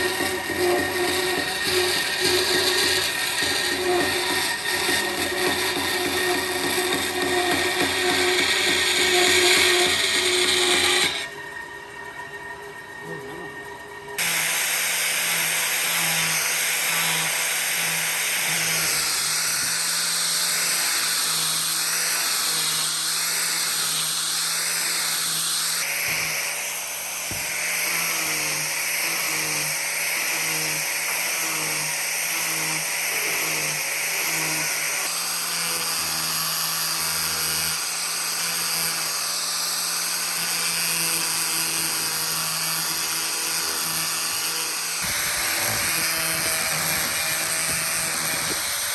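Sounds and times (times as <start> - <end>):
electric power tool cutting wood: 0.0 - 48.9.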